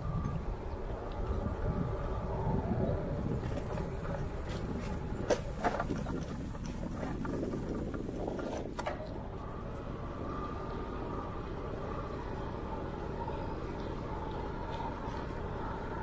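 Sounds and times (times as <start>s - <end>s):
bicycle tyres on pavement: 0.0s - 16.0s
wind on microphone: 0.0s - 16.0s.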